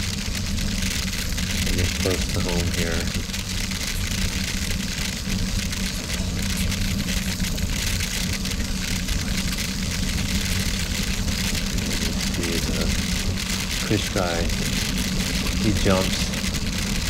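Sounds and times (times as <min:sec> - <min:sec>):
bicycle tyres rolling over gravel: 0:00.0 - 0:17.0.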